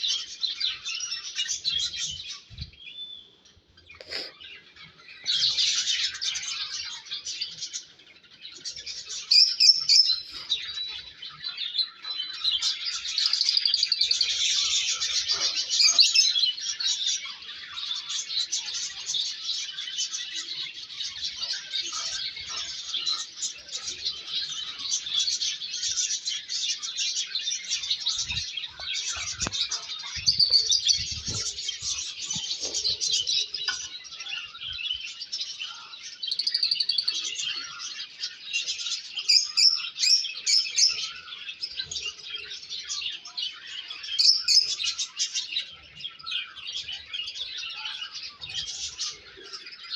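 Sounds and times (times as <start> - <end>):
lovebirds chirping and chattering: 0.0 - 49.9.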